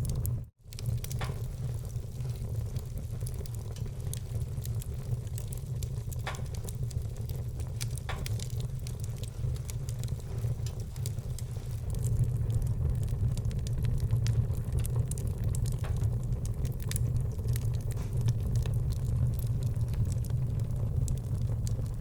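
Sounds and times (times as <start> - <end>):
logs popping: 0.0 - 22.0
low rumble: 0.0 - 22.0
wood fire crackling: 0.0 - 22.0.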